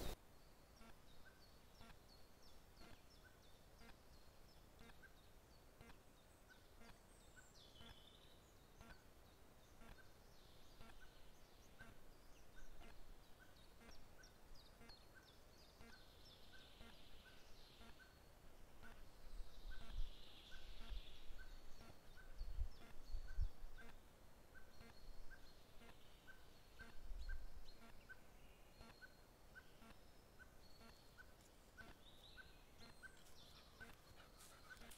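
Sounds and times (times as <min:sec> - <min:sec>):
faint forest ambience: 0:00.0 - 0:34.9.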